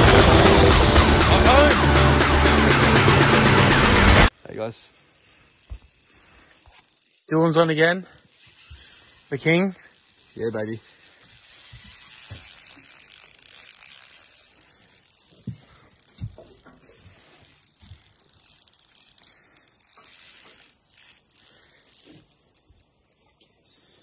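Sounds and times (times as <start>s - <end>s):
fishing reel whirring and clicking: 1.5s - 23.3s.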